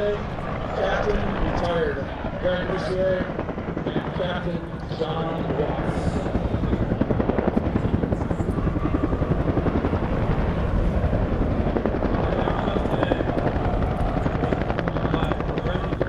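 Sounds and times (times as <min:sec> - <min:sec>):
helicopter flying past: 0:00.0 - 0:16.0
rotor beating: 0:00.0 - 0:16.0.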